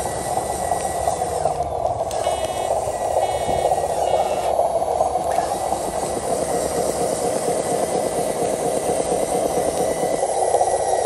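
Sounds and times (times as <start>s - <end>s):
toy truck electric motor running: 0.0s - 11.0s
wheels spinning in mud: 0.0s - 11.0s.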